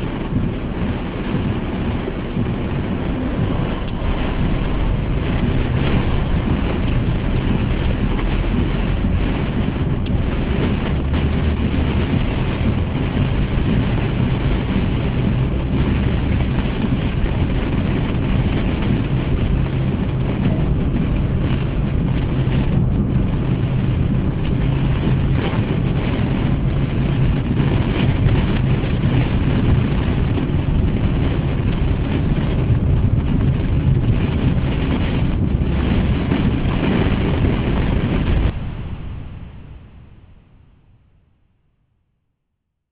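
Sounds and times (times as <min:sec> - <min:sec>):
rain hitting car windscreen: 0:00.0 - 0:39.6
tyre and engine noise: 0:00.0 - 0:39.7.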